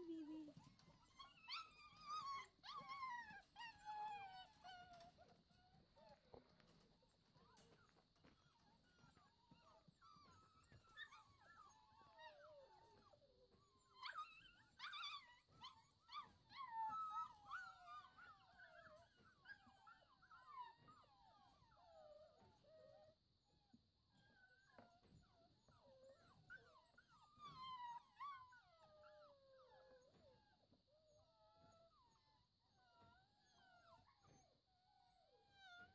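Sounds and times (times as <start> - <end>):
puppies whining: 0.0 - 35.9
puppy yelps: 0.1 - 5.3, 7.5 - 22.9, 24.1 - 34.6, 35.2 - 35.9.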